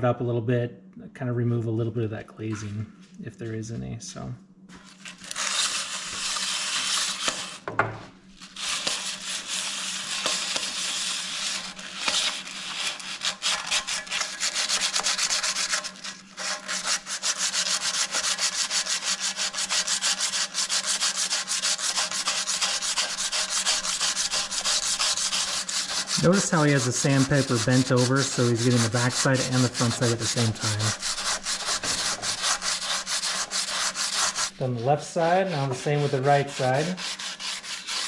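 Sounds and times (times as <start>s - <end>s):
sandpaper rubbing on metal disc: 4.9s - 7.6s, 8.4s - 38.0s.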